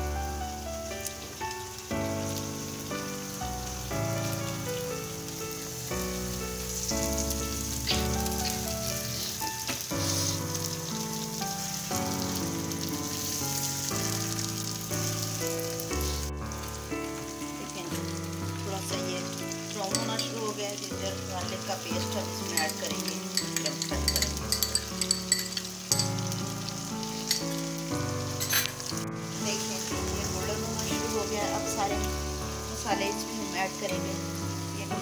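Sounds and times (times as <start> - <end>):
background music: 0.0 - 35.0
chicken sizzling in hot oil: 0.0 - 35.0.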